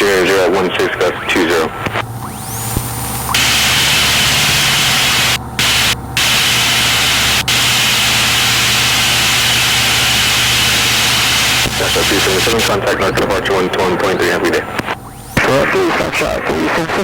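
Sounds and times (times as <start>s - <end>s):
aircraft engine humming: 0.0s - 17.0s
radio static hiss in headset: 0.0s - 17.0s.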